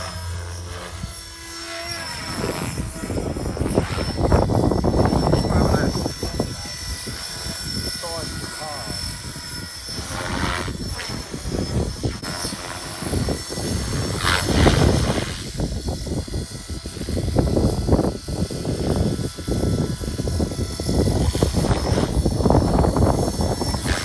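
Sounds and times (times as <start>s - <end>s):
rc helicopter rotor whirring: 0.0s - 24.0s.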